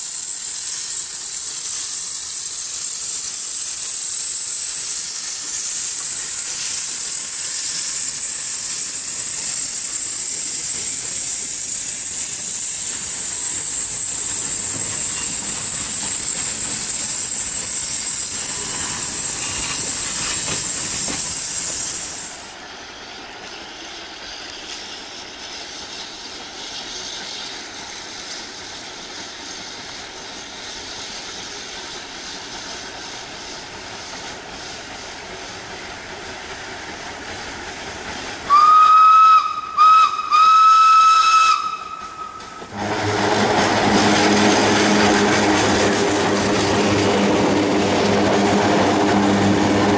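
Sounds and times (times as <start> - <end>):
steam locomotive running noise: 0.0 - 49.9
steam train hissing: 0.0 - 49.9.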